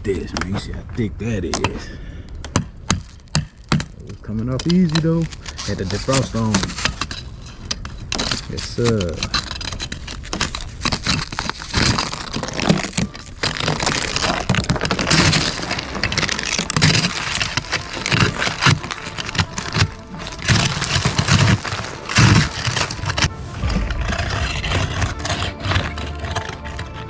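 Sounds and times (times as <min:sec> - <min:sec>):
ice scraping and cracking: 0:00.0 - 0:27.0.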